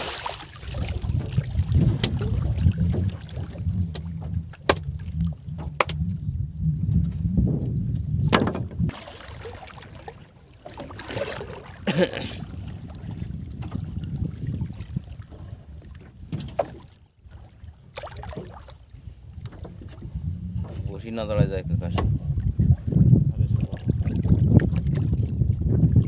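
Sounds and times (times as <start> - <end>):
water sloshing beside boat: 0.0 - 26.0
wind rumble on microphone: 0.0 - 26.0.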